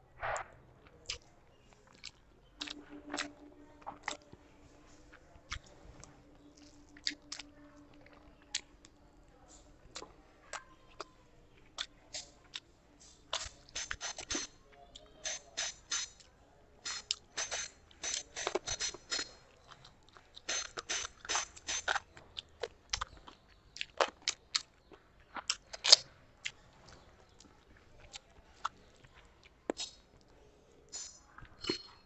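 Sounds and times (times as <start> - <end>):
person chewing and mouth smacking: 0.9 - 16.3, 16.9 - 30.4.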